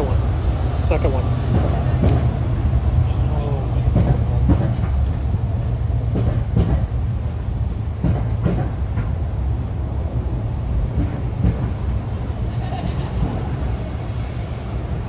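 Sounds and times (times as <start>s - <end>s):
vehicles driving past: 0.0s - 15.0s.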